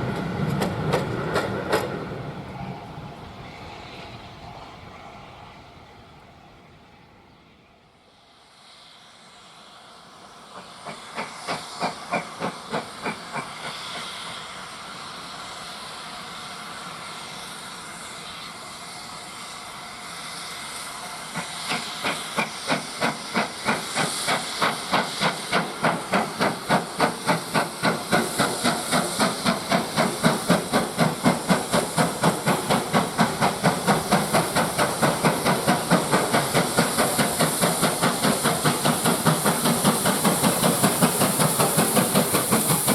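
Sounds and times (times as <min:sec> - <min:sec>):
steam hissing: 0:08.1 - 0:42.9.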